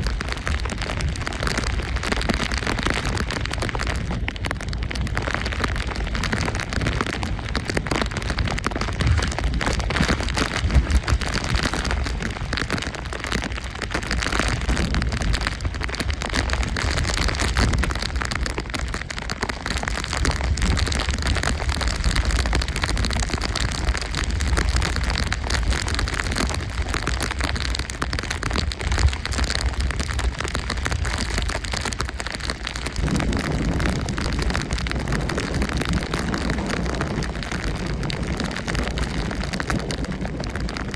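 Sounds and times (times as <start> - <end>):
rain rushing: 0.0 - 40.9
wind buffeting microphone: 0.0 - 40.9.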